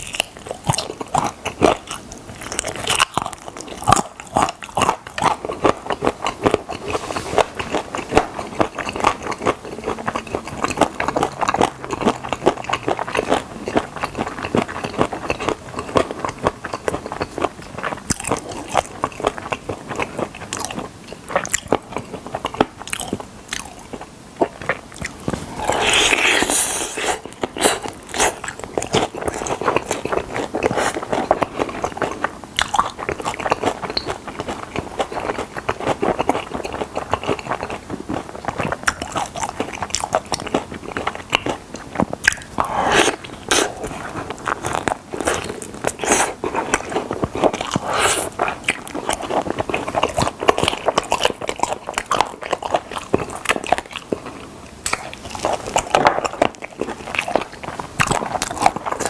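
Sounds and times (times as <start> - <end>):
crunching and chewing fried chicken: 0.0 - 59.0.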